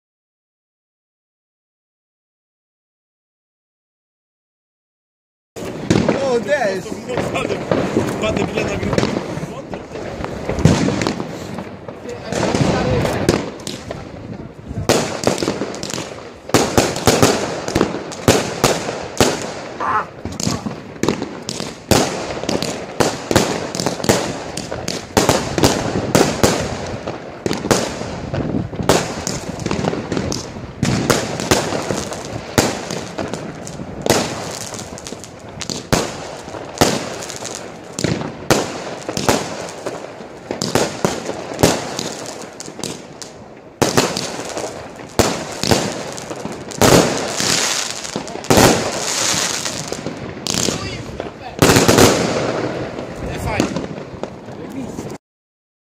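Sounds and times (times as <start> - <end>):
firework shots and bursts: 5.6 - 55.2.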